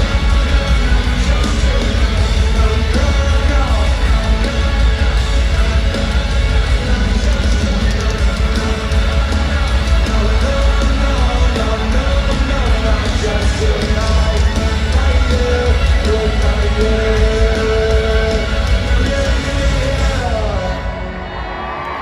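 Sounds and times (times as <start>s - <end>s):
person singing and yelling: 0.0s - 21.6s
rock band playing loudly: 0.0s - 22.0s.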